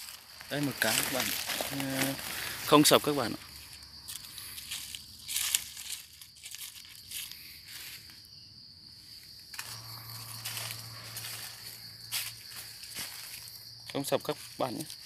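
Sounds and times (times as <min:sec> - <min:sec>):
dry leaves rustling and crunching: 0:00.0 - 0:08.1, 0:09.5 - 0:15.0
insects droning: 0:00.0 - 0:15.0.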